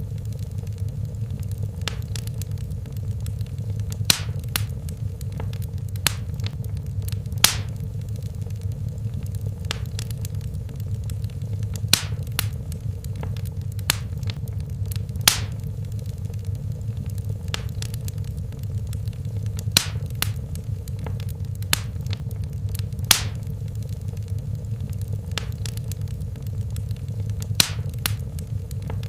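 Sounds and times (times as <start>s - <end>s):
low rumble of burning: 0.0s - 29.0s
sharp pops of fire: 0.0s - 29.0s
wood fire crackling: 0.0s - 29.0s.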